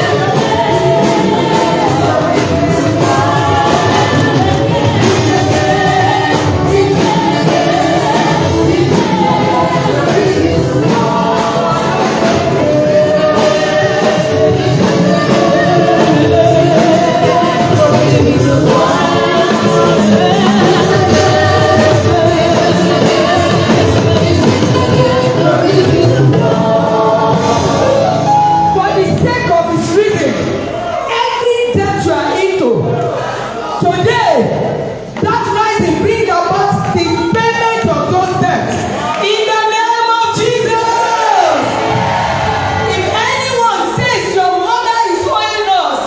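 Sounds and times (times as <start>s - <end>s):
gospel singing with instruments: 0.0s - 46.0s.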